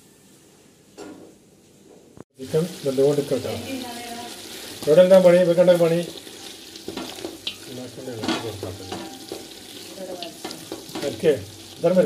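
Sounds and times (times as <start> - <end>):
masala sizzling: 2.3 - 12.0.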